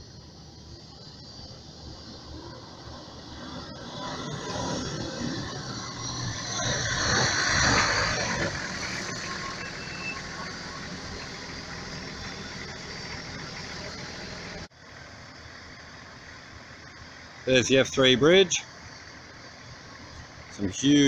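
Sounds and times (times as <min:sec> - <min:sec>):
car engine: 0:00.0 - 0:21.0.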